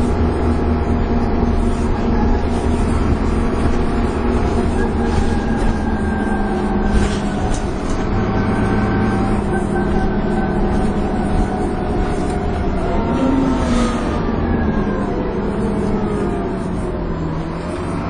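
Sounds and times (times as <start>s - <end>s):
bus engine droning with whine: 0.0s - 18.0s
low rising note: 0.0s - 18.0s
steady tones drifting in pitch: 0.0s - 18.0s.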